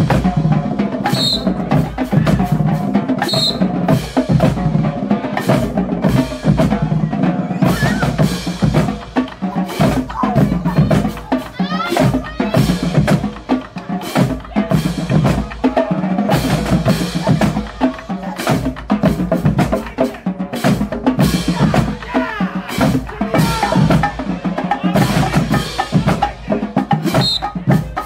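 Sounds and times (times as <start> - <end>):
bass drums: 0.0 - 28.0
snare drums: 0.0 - 28.0.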